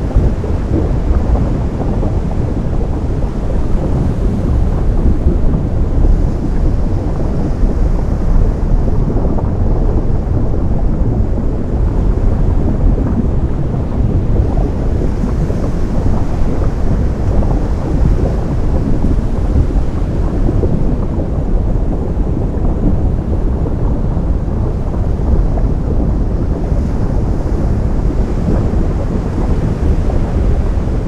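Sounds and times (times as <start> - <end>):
ocean surf rushing: 0.0 - 31.0.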